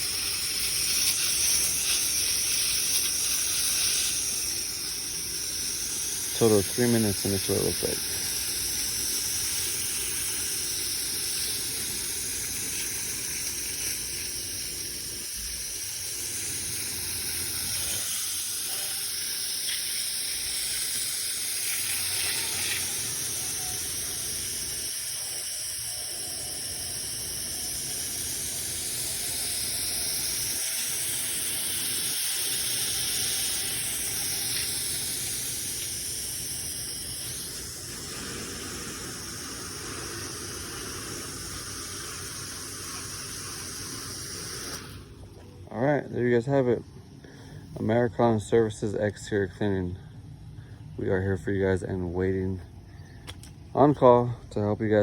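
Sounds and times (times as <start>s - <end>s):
water spraying from nozzle: 0.0s - 45.5s.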